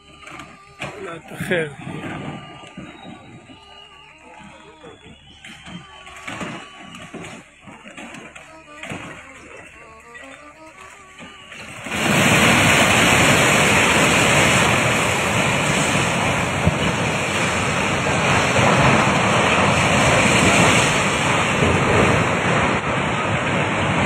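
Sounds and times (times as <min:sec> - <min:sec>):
wind buffeting microphone: 0:00.0 - 0:07.8, 0:11.6 - 0:24.0
river rushing roar: 0:04.4 - 0:24.0.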